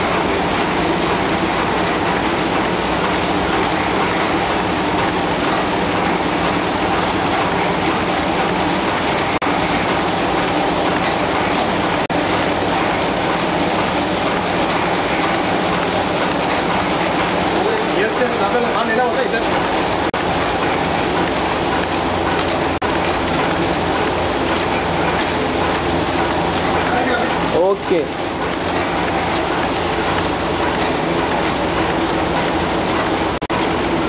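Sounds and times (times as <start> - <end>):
printing press mechanical clatter: 0.0 - 34.0.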